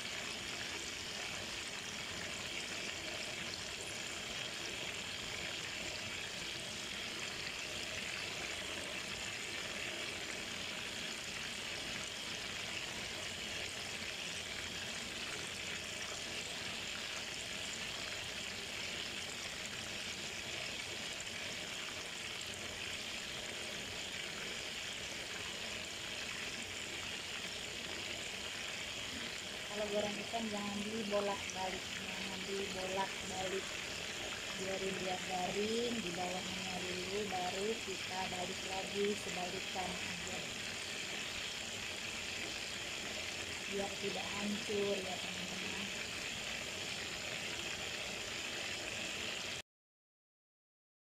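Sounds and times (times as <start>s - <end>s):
fish frying in hot oil: 0.0s - 49.6s.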